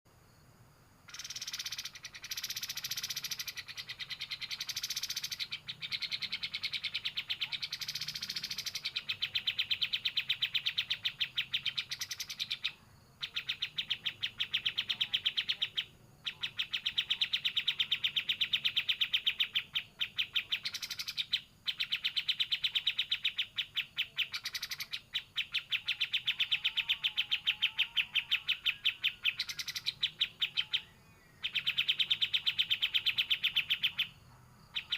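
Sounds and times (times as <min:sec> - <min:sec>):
songbird rattling trills: 0:01.1 - 0:34.9.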